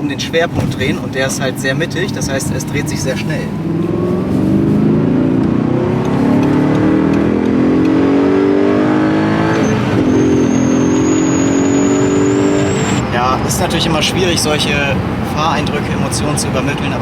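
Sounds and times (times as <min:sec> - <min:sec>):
car engine accelerating hard: 0:00.1 - 0:17.0.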